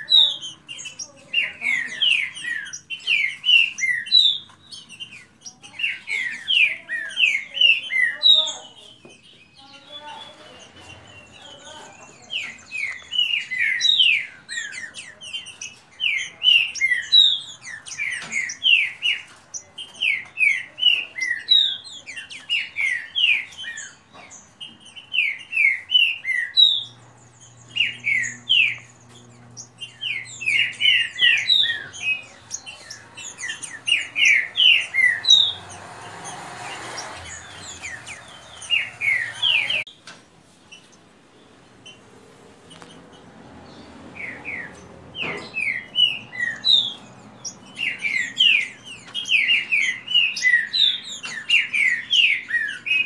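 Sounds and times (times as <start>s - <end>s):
birds singing sliding notes: 0.0s - 53.0s.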